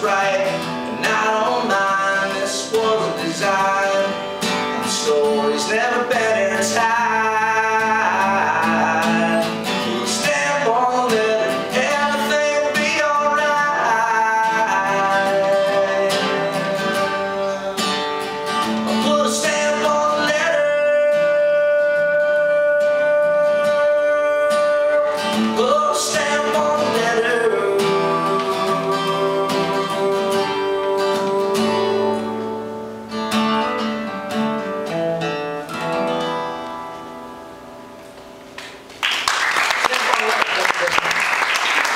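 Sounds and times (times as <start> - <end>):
acoustic guitar music: 0.0 - 39.2.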